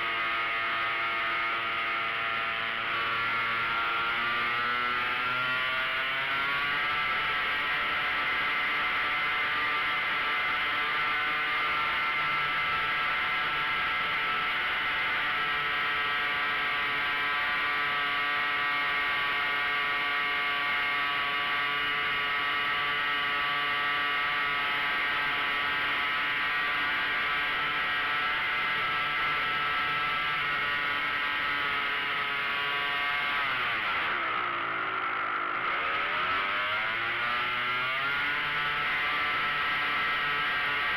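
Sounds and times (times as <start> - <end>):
model airplane motor and propeller: 0.0 - 40.9.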